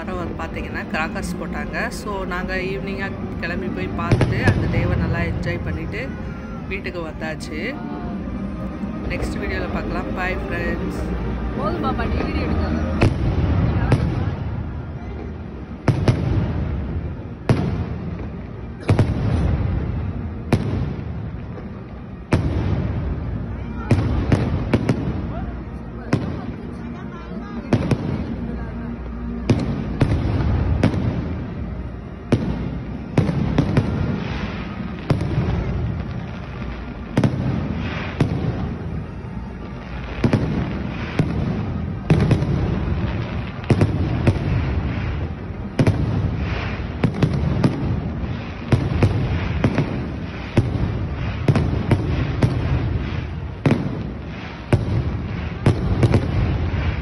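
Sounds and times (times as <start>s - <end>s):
low rumbling: 0.0s - 57.0s.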